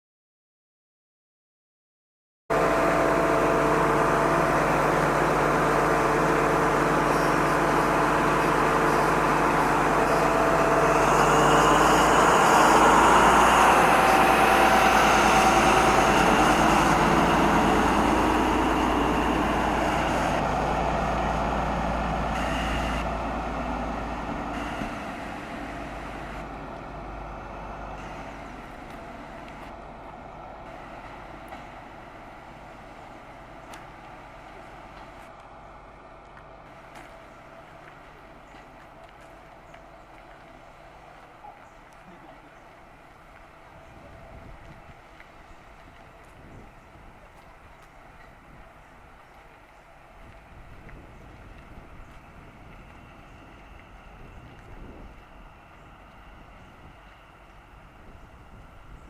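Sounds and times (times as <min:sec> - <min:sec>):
train diesel engines running: 0:02.5 - 0:59.0.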